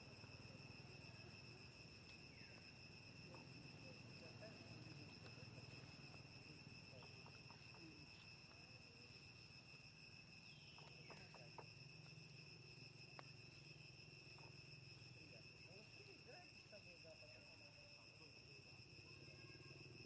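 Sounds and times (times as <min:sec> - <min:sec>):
crickets droning: 0:00.0 - 0:20.0.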